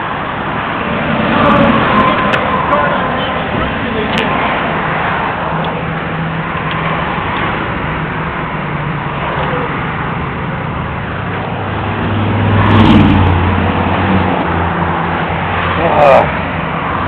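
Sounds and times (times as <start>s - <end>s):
highway traffic: 0.0s - 17.0s
vehicle passing close: 0.0s - 17.0s.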